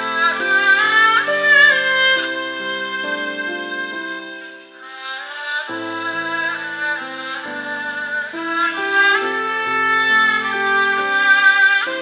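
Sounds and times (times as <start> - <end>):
bowed fiddles playing slow melody: 0.0 - 12.0.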